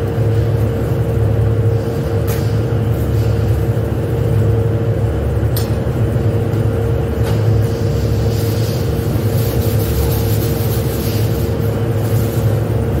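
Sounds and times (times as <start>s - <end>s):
factory machinery drone: 0.0s - 13.0s.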